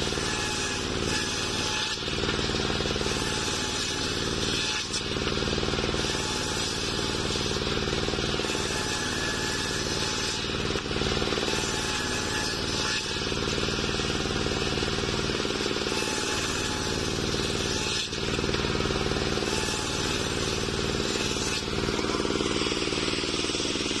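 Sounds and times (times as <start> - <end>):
circular saw blade humming: 0.0 - 24.0
small engine running: 0.0 - 24.0.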